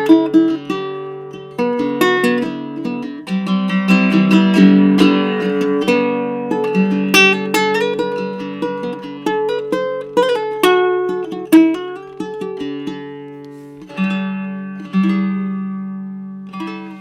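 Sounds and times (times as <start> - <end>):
ukulele picking and strumming: 0.0 - 17.0.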